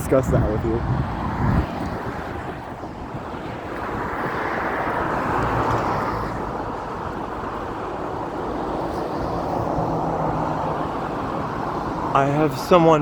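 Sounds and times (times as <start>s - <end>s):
vehicle tyre and road noise: 0.0s - 13.0s
wind buffeting microphone: 0.0s - 13.0s.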